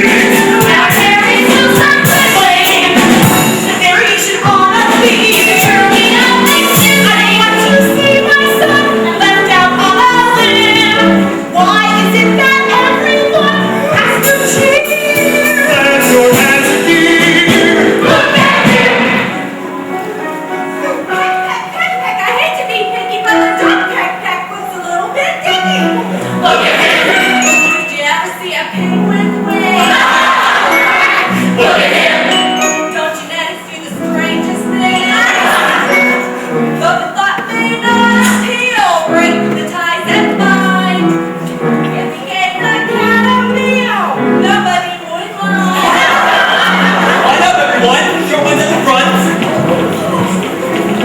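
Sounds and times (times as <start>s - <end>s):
cast singing musical-theatre song: 0.0s - 19.8s, 21.3s - 51.0s
instrumental accompaniment: 0.0s - 51.0s.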